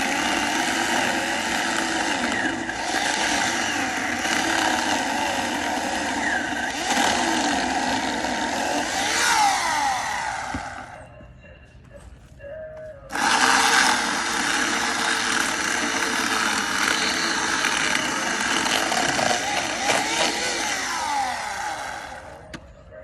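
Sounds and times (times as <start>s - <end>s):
electric chainsaw motor running: 0.0s - 11.0s, 13.1s - 22.4s.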